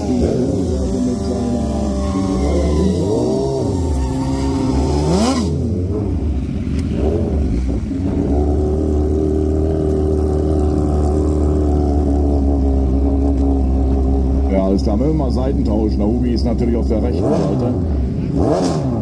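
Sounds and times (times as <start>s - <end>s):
drag racing engine revving: 0.0s - 19.0s.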